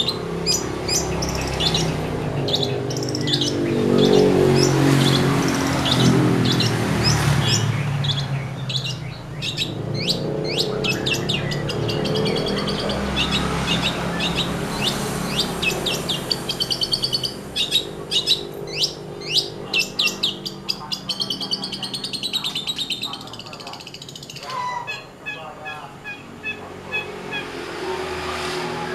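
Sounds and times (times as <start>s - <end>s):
shrike singing chattering song: 0.0s - 27.6s.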